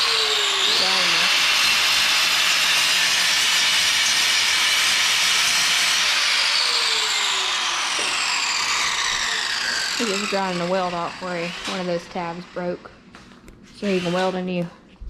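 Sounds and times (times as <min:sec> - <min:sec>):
grinder disc on metal: 0:00.0 - 0:12.9, 0:13.8 - 0:14.6.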